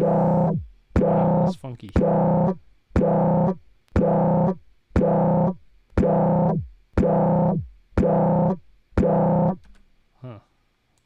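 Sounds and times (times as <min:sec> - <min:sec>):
buzzy synthesizer note: 0:00.0 - 0:09.6.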